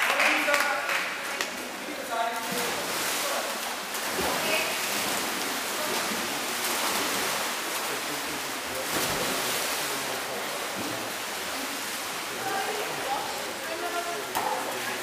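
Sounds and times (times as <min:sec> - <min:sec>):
faint voices: 0:00.0 - 0:15.0
water splashing in pool: 0:00.0 - 0:15.0.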